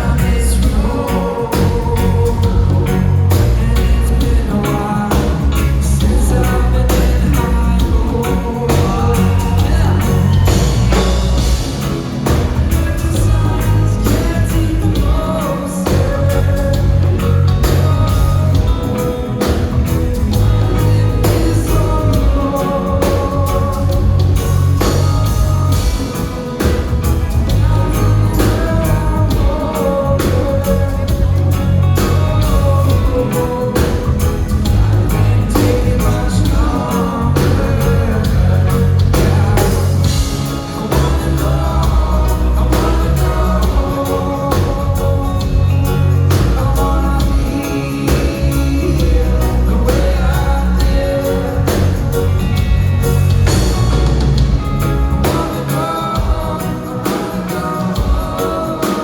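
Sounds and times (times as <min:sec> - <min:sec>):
pulsing bass line: 0:00.0 - 0:58.6
lead vocal singing: 0:00.0 - 0:59.0
reggae band playing live: 0:00.0 - 0:59.0
steady drum beat: 0:00.0 - 0:59.0.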